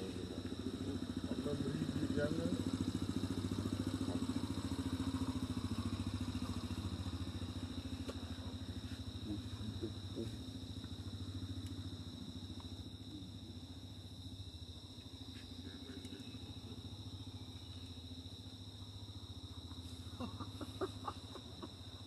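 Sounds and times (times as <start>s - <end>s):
high-pitched insect drone: 0.0s - 22.0s
small engine idling: 0.0s - 22.0s.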